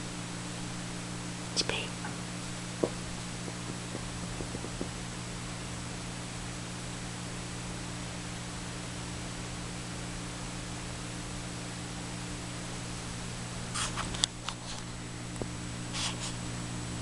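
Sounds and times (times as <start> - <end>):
camera hiss and electrical hum: 0.0 - 17.0.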